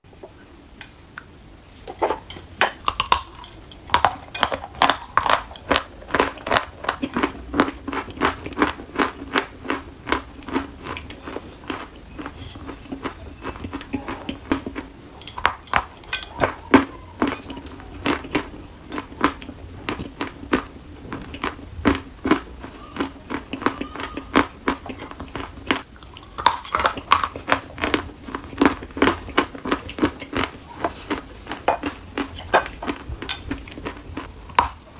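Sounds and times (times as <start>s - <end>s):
chalk crunching while chewed: 0.9s - 34.9s.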